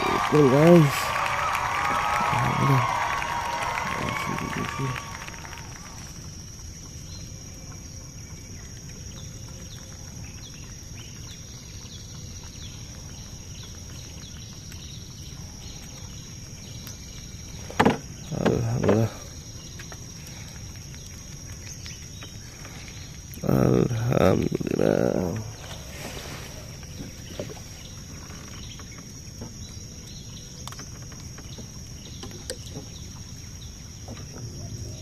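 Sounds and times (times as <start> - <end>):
small chirps: 1.1 - 35.0.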